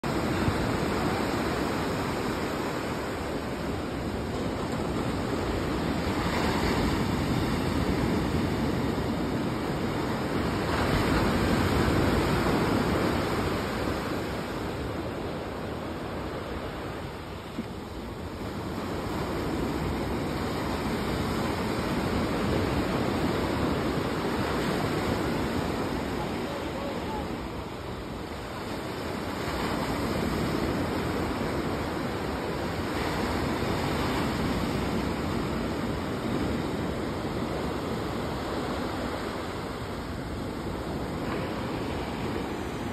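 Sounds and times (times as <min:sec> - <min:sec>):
ocean surf breaking on beach: 0:00.0 - 0:42.9.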